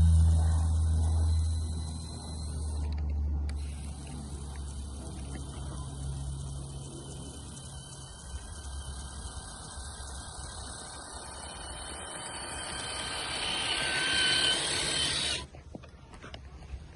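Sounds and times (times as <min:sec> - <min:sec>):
electric motor whining: 0:00.0 - 0:15.5.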